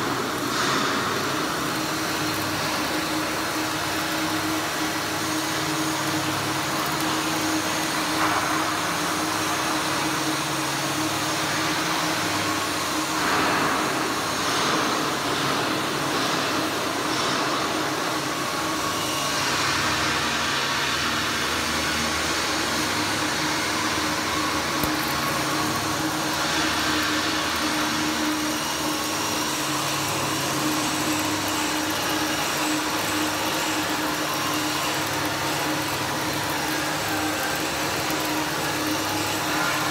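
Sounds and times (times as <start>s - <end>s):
machine hum: 0.0s - 39.9s
welding arc hissing: 0.0s - 39.9s.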